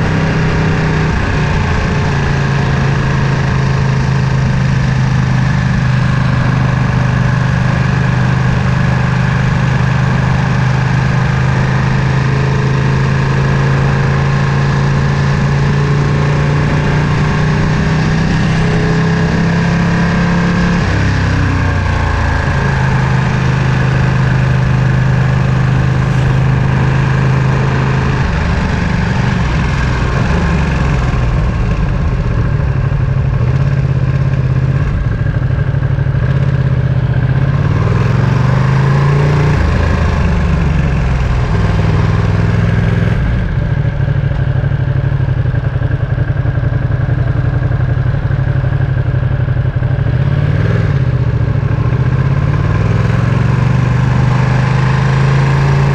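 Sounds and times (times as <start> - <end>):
motorcycle engine while riding: 0.0 - 55.9.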